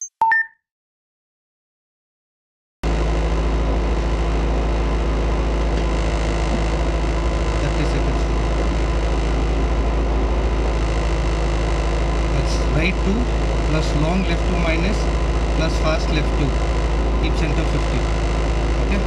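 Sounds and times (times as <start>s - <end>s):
car engine idling: 3.6s - 19.0s.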